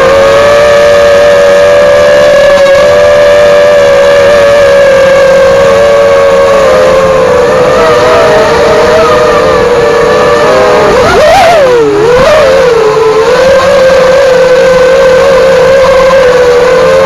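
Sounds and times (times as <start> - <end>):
drone motors and propellers whining: 0.0 - 17.0.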